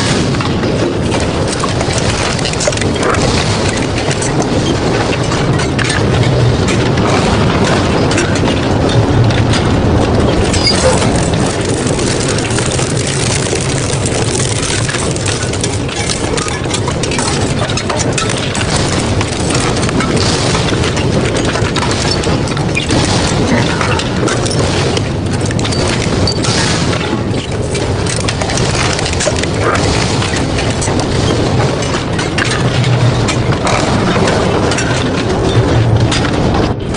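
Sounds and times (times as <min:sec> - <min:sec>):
metal shredder crunching scrap: 0:00.0 - 0:36.5
low machine drone: 0:00.0 - 0:36.9.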